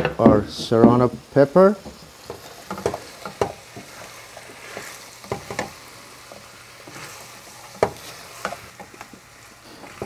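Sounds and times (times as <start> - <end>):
meat sizzling in a pot: 0.0 - 10.0.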